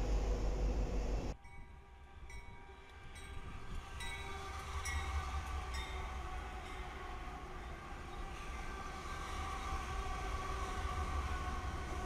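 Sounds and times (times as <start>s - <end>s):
loud train rumble: 0.0s - 1.6s, 2.2s - 12.0s
diesel locomotives rolling past: 0.0s - 12.0s.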